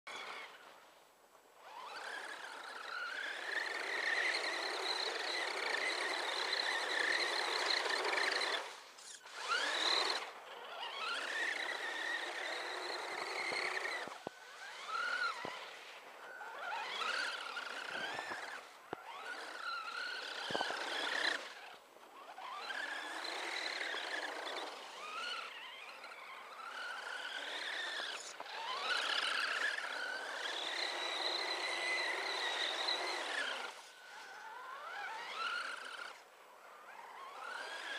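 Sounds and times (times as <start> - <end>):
toy truck electric motor whining: 0.1 - 0.6, 1.6 - 37.9.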